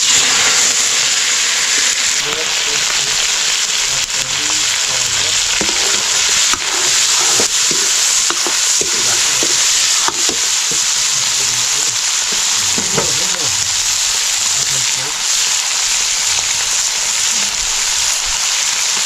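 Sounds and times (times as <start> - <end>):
food sizzling in a hot pan: 0.0 - 19.0.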